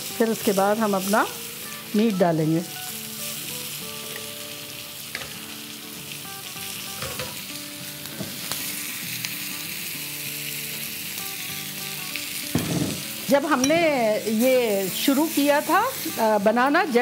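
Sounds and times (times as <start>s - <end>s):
food sizzling on a skillet: 0.0s - 17.0s.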